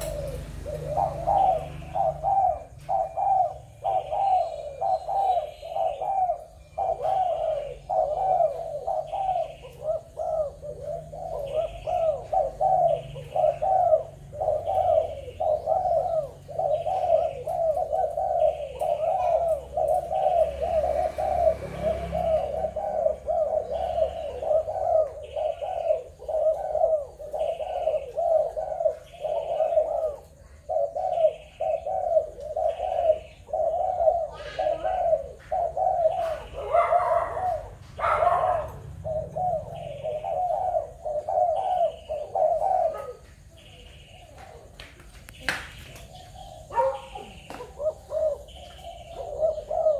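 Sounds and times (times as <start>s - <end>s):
doves cooing: 0.0s - 49.9s.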